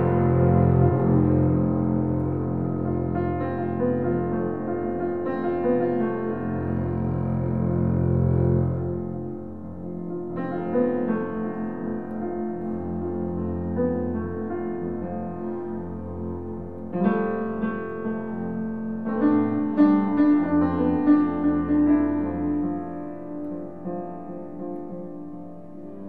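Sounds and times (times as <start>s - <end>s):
bowed double bass: 0.0s - 26.0s
piano chords: 0.0s - 26.0s.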